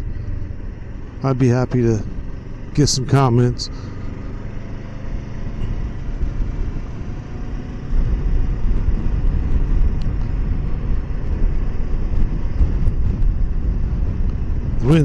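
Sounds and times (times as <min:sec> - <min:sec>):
motorcycle running on road: 0:00.0 - 0:15.0
wind buffeting microphone: 0:00.0 - 0:15.0.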